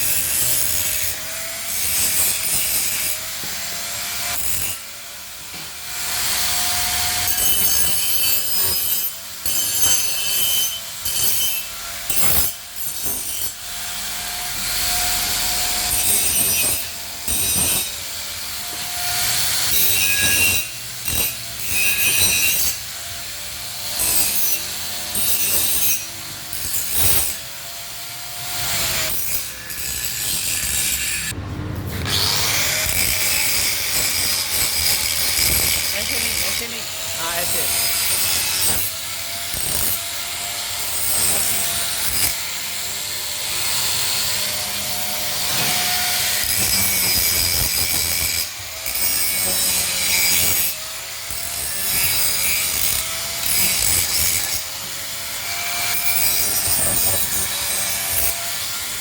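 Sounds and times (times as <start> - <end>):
grinder grinding metal: 0.0 - 59.0.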